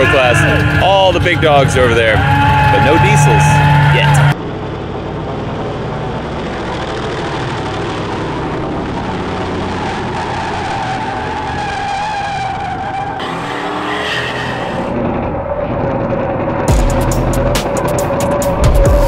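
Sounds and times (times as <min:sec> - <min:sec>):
truck engine revving with tyres squealing: 0:00.0 - 0:19.0.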